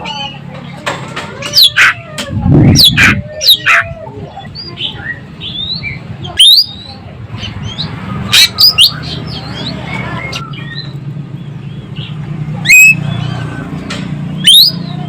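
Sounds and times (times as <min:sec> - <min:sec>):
soft bird chattering: 0:01.4 - 0:15.0.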